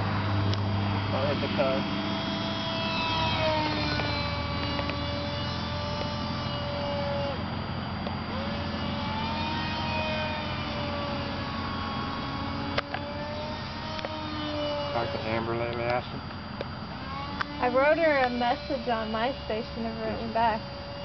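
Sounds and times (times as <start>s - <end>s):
model airplane motor whining: 0.0s - 21.0s.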